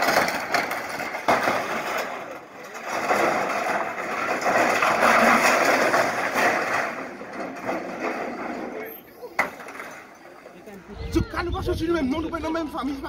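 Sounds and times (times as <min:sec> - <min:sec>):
backhoe tearing corrugated iron: 0:00.0 - 0:10.5.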